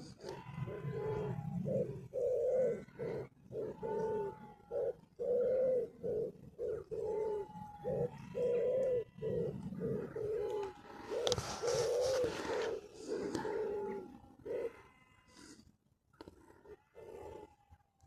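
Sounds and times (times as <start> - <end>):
pigeon cooing: 0.0 - 15.6, 16.2 - 17.7.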